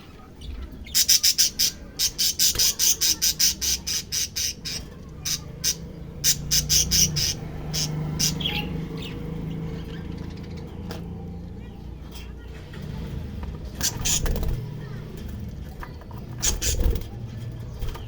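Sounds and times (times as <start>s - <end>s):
bird chicks high-pitched calls: 0.0s - 18.0s.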